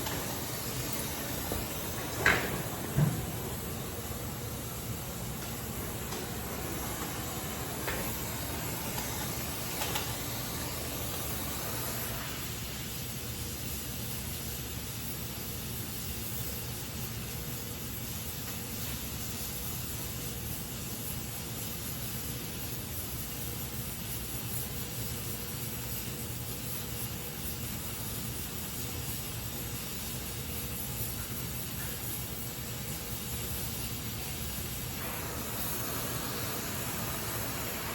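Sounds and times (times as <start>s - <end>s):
welding torch flame hissing: 0.0s - 37.9s.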